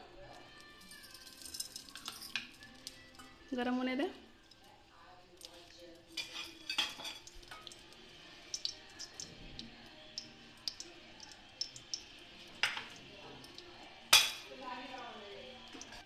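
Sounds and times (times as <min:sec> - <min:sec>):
ghee crackling and popping: 0:00.0 - 0:16.0.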